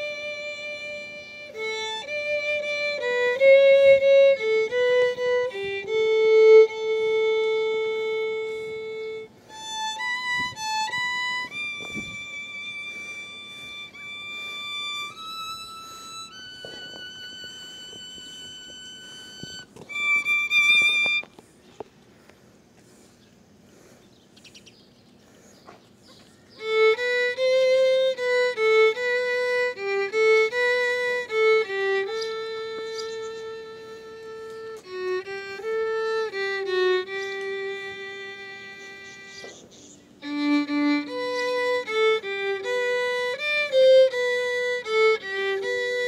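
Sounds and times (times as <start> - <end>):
solo violin: 0.0 - 21.6, 26.6 - 46.0.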